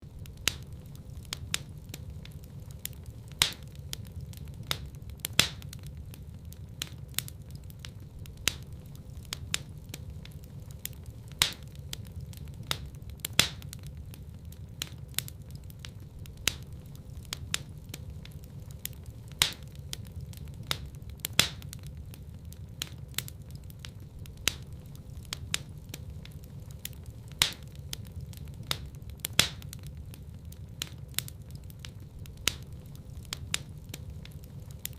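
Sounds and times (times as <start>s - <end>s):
fire rumbling: 0.0s - 34.9s
wood crackling and popping: 0.0s - 34.9s.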